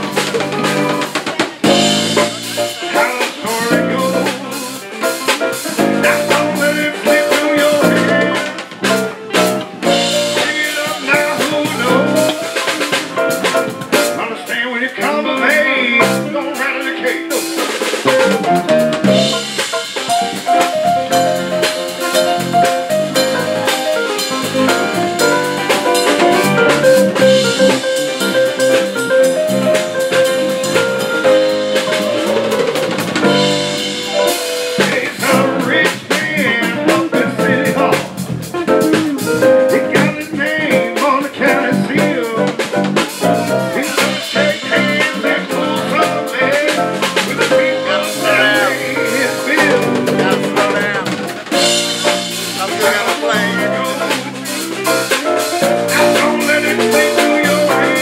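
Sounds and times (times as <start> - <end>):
held melody line: 0.0 - 58.0
live band playing: 0.0 - 58.0.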